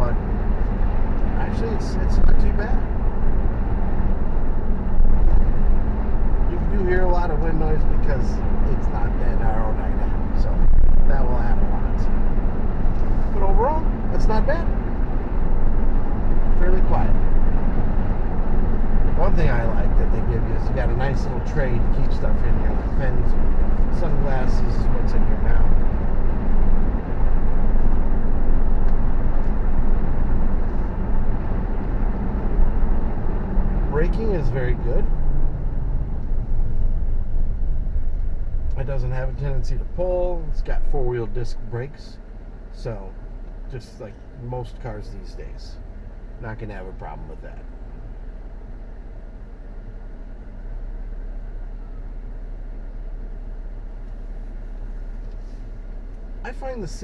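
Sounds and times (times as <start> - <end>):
low engine drone: 0.0 - 57.0
road and wind noise in car: 0.0 - 57.0.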